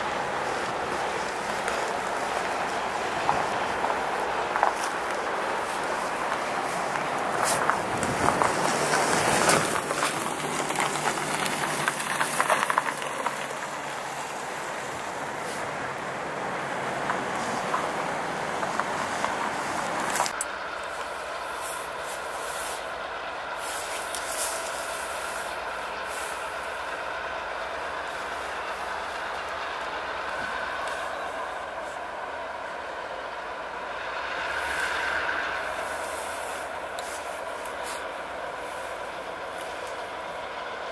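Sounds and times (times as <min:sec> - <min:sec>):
diesel locomotive droning: 0:00.0 - 0:40.9
freight cars rumbling on rails: 0:00.0 - 0:40.9.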